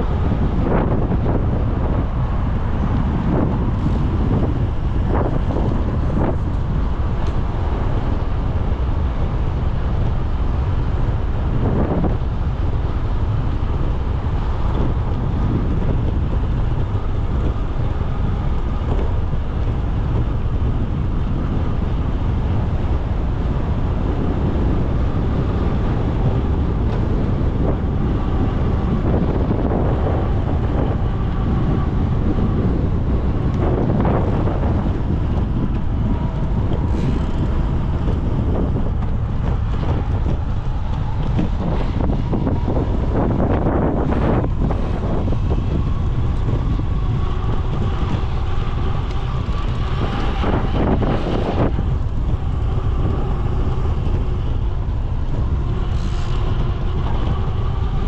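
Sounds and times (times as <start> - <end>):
road noise: 0.0 - 58.0
wind buffeting microphone: 0.0 - 58.0.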